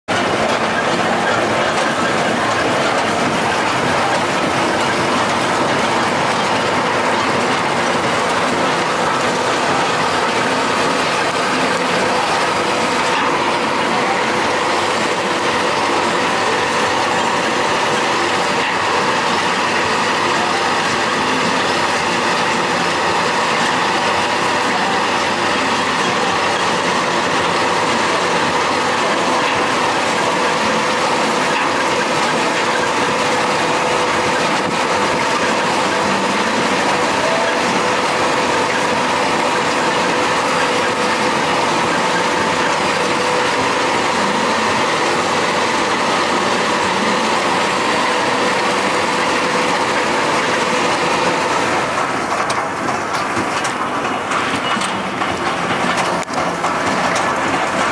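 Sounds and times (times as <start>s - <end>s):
tractor diesel engine under load: 0.0s - 57.9s
baler machinery running: 0.1s - 57.9s.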